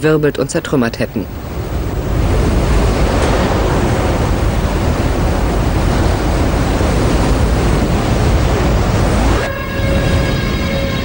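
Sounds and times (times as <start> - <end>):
strong wind rushing: 1.1 - 11.0.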